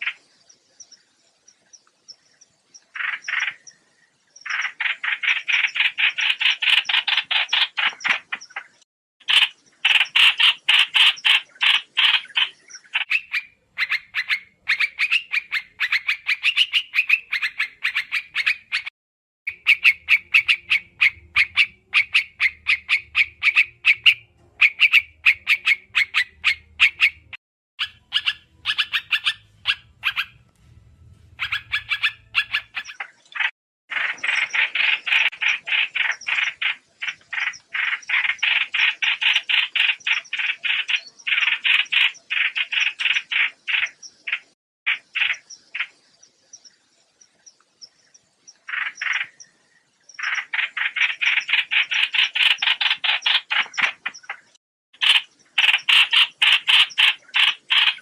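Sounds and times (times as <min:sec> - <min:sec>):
bird call chattering notes: 0:02.8 - 0:03.8, 0:04.4 - 0:18.9, 0:19.5 - 0:30.5, 0:31.2 - 0:58.0.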